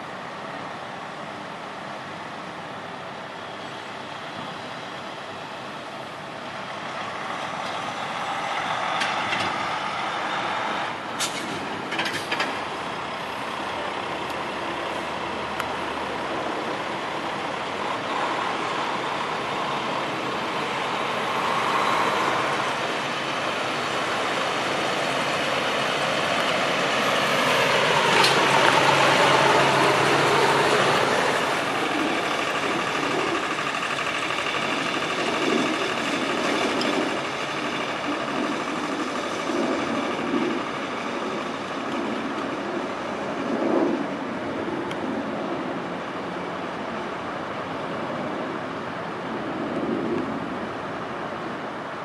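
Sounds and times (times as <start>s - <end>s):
rail truck running on rails: 0.0s - 52.0s.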